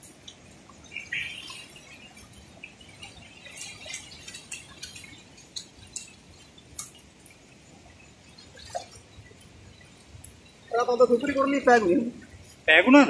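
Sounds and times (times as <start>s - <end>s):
short clicks and drips: 0.0s - 11.4s
fast-flowing stream water: 0.4s - 12.4s.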